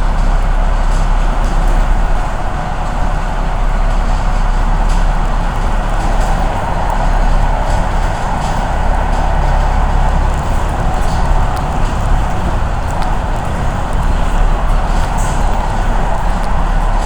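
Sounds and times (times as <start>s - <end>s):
vehicle running noise: 0.0s - 17.0s.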